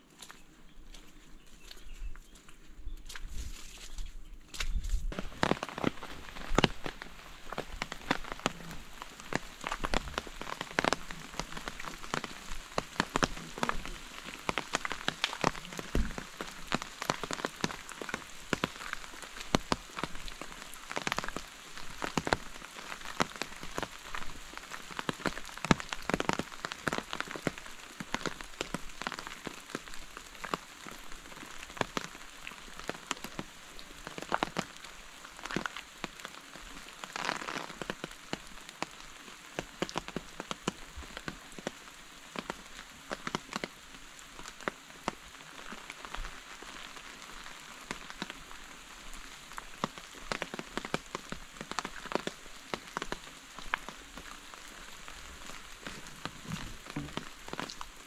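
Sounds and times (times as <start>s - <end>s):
raindrops ticking: 5.1s - 58.0s
steady rain hiss: 5.1s - 58.0s.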